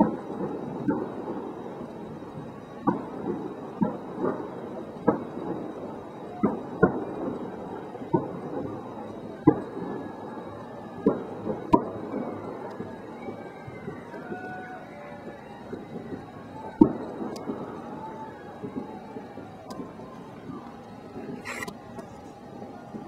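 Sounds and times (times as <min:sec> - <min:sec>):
continuous low rumble: 0:00.0 - 0:23.0
fireworks bangs: 0:00.0 - 0:23.0.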